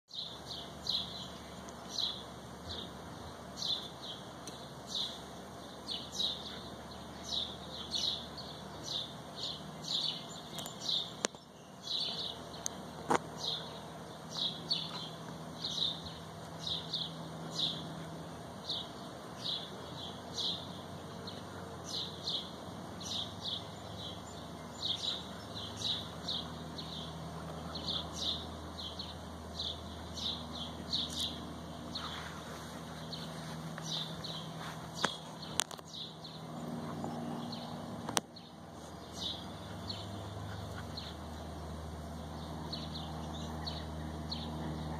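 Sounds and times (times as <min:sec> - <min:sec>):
bird chirping: 0:00.1 - 0:44.9.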